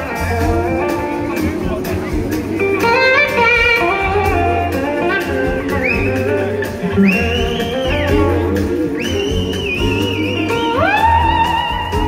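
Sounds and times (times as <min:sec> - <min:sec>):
drums and bass: 0:00.0 - 0:12.0
electric slide guitar: 0:00.0 - 0:12.0.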